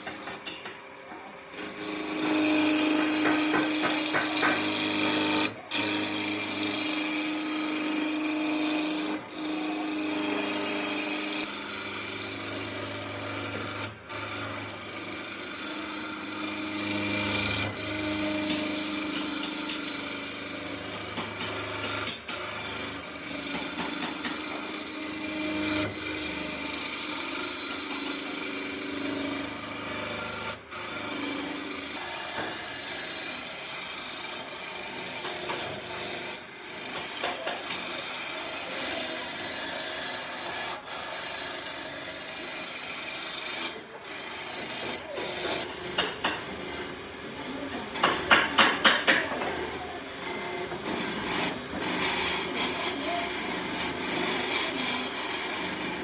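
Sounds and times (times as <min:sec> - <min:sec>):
power tool cutting wood: 0:00.0 - 0:00.5, 0:01.5 - 0:56.0.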